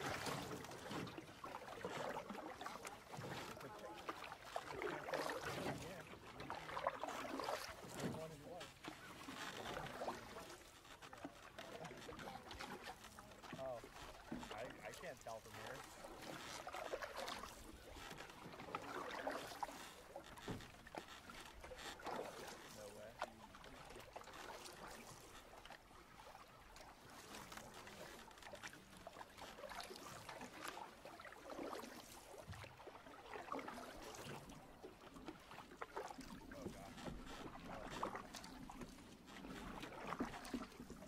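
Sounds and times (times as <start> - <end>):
paddle swishing through water: 0.0 - 41.0
water lapping along hull: 0.0 - 41.0.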